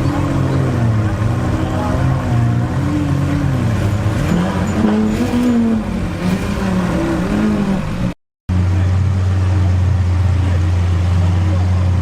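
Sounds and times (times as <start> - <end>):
low engine drone: 0.0 - 12.0
sports car engines revving: 0.0 - 12.0.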